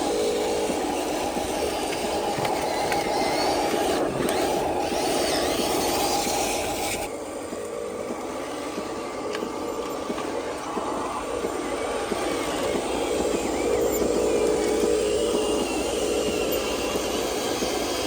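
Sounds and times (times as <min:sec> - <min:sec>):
small electric motors whirring: 0:00.0 - 0:18.0.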